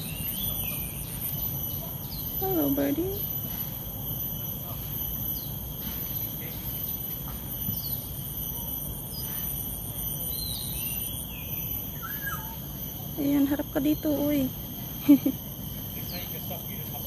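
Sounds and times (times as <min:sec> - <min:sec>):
insect trill: 0:00.0 - 0:17.0
insects droning: 0:00.0 - 0:17.0.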